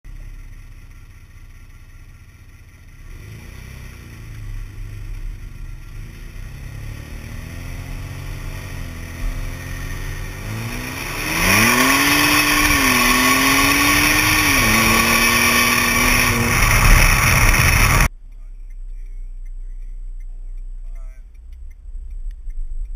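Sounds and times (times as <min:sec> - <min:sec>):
car engine accelerating: 0:00.1 - 0:22.9.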